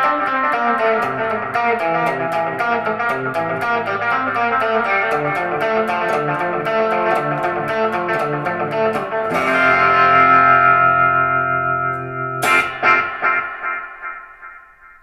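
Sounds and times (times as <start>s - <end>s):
electric guitar picked notes: 0.0s - 15.0s
guitar chord ringing: 0.0s - 15.0s
sharp guitar strums: 0.0s - 15.0s.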